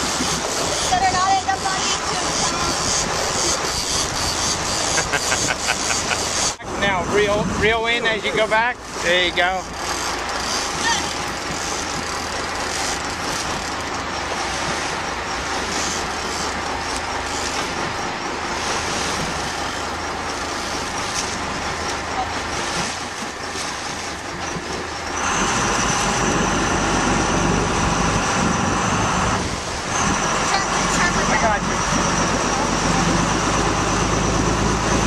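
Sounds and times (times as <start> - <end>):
boat engine running: 0.0 - 35.0
steady high whine: 0.0 - 35.0
wind and water noise: 0.0 - 35.0.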